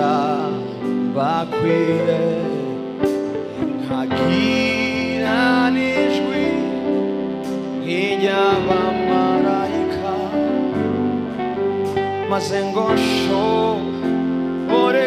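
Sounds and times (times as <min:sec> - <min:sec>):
guitar-led band playing: 0:00.0 - 0:15.0
man singing: 0:00.0 - 0:15.0.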